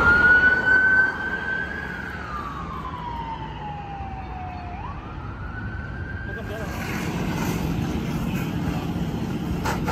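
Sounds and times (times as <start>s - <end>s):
emergency siren wailing: 0.0s - 9.3s
traffic noise: 0.0s - 9.9s.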